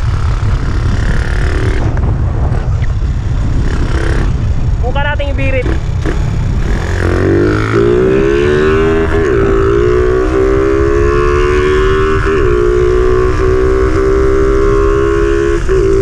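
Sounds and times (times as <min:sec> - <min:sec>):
motorcycle engine revving high: 0:00.0 - 0:16.0.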